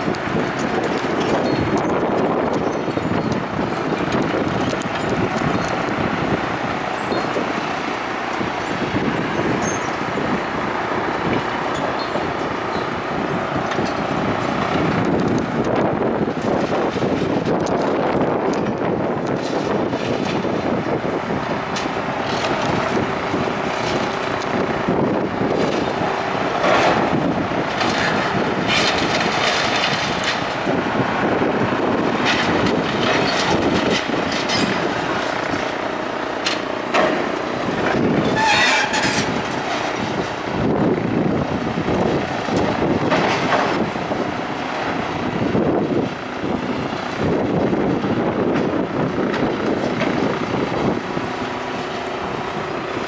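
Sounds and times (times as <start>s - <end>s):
machine rumbling and clattering: 0.0s - 53.0s
wind buffeting microphone: 0.0s - 53.0s.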